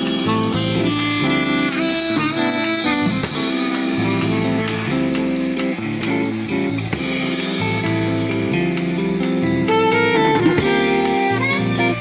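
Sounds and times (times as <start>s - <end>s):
bass line: 0.0s - 12.0s
guitar strummed and plucked: 0.0s - 12.0s.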